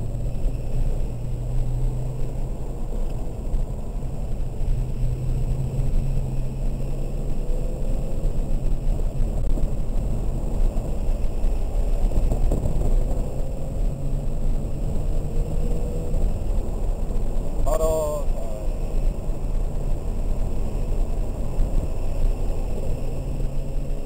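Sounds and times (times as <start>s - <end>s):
car engine accelerating: 0.0s - 24.0s
tyre noise on wet road: 0.0s - 24.0s.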